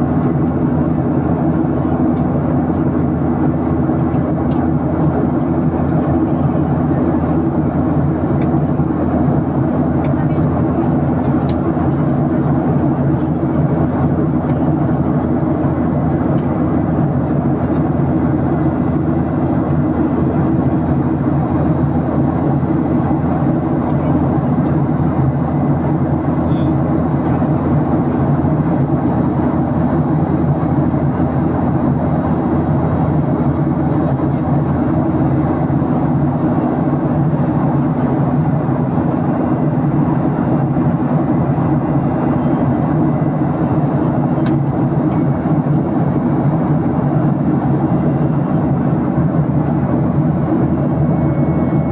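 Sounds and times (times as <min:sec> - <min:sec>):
airplane drone: 0:00.0 - 0:51.9.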